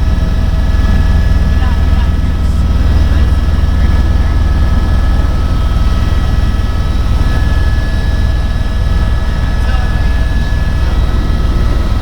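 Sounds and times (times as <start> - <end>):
helicopter rotor chop: 0.0 - 12.0
high engine whine: 0.0 - 12.0.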